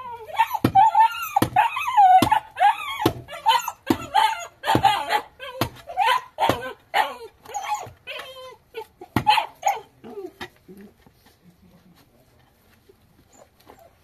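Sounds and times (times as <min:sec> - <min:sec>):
dog whimpering and yipping: 0:00.0 - 0:10.9, 0:13.2 - 0:14.0.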